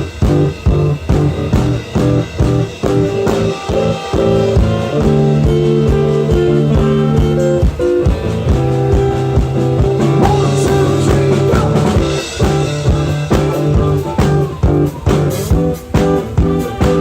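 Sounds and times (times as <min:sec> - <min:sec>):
instrumental band music: 0:00.0 - 0:17.0.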